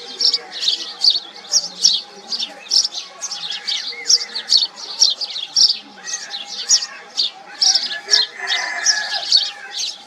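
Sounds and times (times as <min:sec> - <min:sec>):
sparrows chirping: 0:00.0 - 0:10.0.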